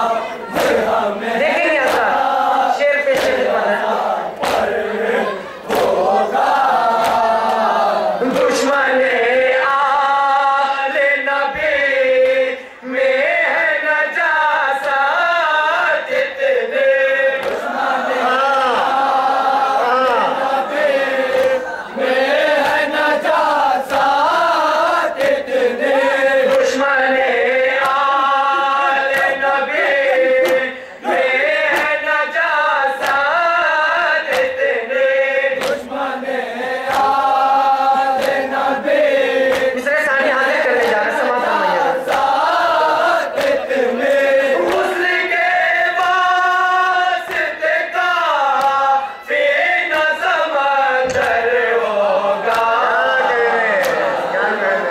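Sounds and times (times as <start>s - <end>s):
lead voice singing: 0.0s - 54.9s
men chanting a lament: 0.0s - 54.9s.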